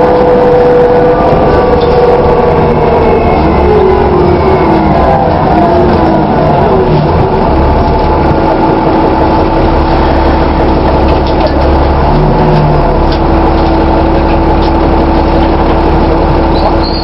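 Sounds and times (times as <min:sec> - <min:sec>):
steady tone: 0:00.0 - 0:16.5
bus engine drone: 0:00.0 - 0:17.0.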